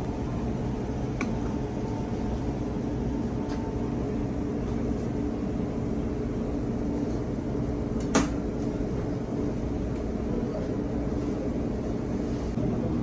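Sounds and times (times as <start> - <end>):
mechanical hum with low rumble: 0.0 - 13.0.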